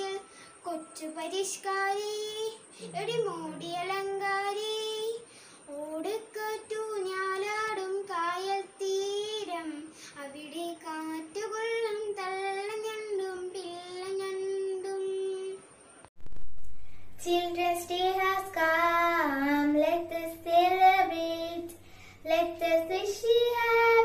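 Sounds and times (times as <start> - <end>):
boy singing unaccompanied: 0.0 - 15.7, 17.2 - 24.0.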